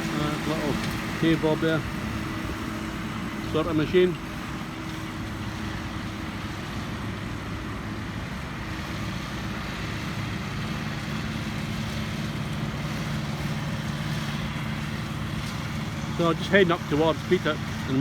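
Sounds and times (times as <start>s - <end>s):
motorway traffic hiss: 0.0s - 18.0s
tractor engine running: 0.0s - 18.0s.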